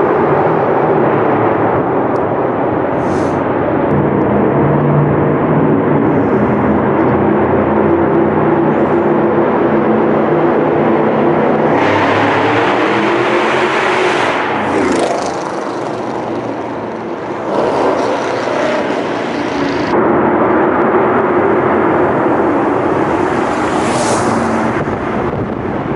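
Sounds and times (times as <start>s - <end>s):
car engine running under load: 0.0s - 25.9s
loud rushing noise: 0.0s - 25.9s.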